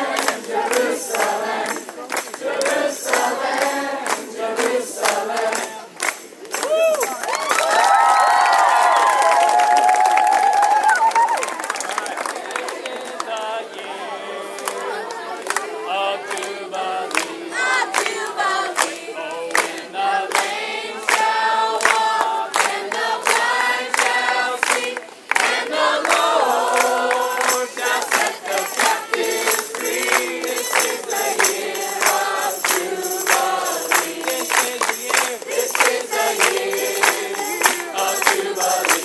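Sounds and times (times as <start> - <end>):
choir singing a worship song: 0.0 - 5.9, 12.8 - 39.0.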